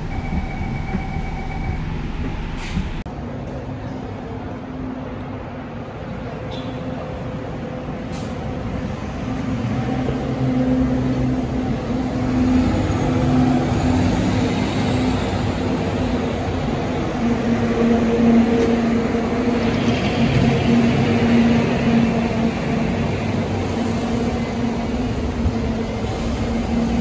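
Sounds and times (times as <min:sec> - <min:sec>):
buses driving past: 0:00.0 - 0:27.0.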